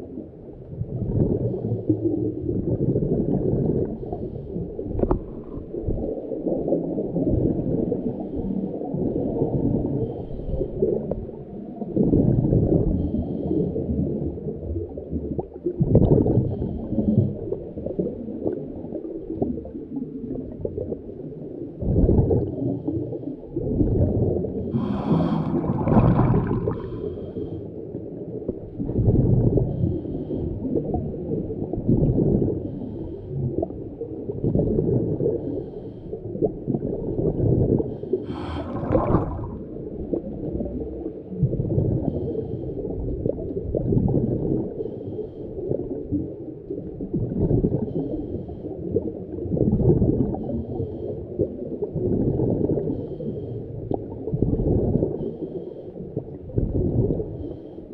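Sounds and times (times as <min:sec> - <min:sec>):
underwater breathing bubbles: 0:00.0 - 0:57.9.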